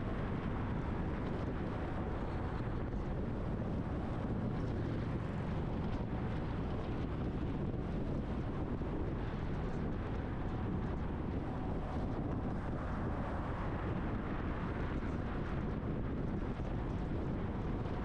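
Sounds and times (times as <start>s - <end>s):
truck road and wind noise: 0.0s - 18.0s.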